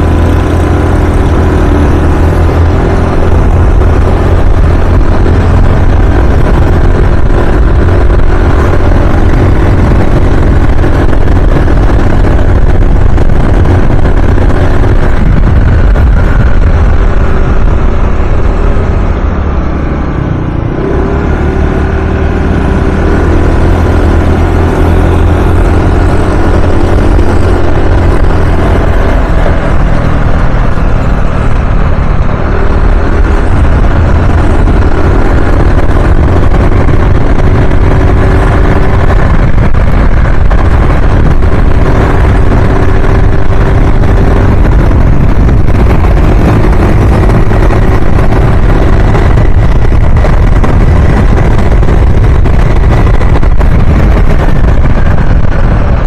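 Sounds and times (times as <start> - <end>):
road noise: 0.0 - 56.0
scooter engine: 0.0 - 56.0
wind rushing on microphone: 0.0 - 56.0.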